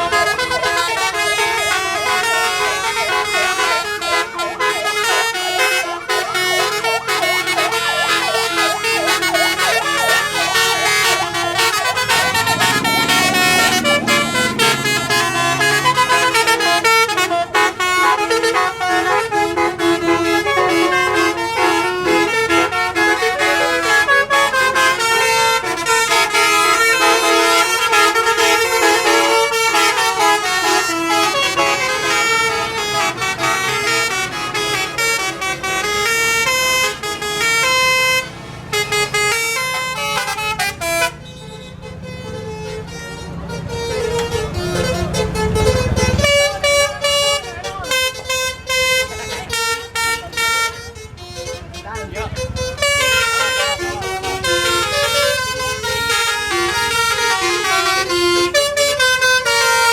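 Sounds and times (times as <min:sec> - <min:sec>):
multi-tone bus horn melody: 0:00.0 - 0:59.9.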